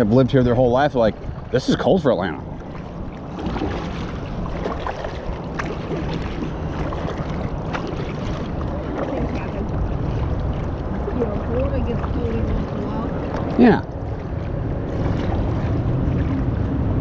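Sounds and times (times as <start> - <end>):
paddle strokes in water: 0.0 - 17.0
water splashing and dripping: 0.0 - 17.0
wind on microphone: 0.0 - 17.0.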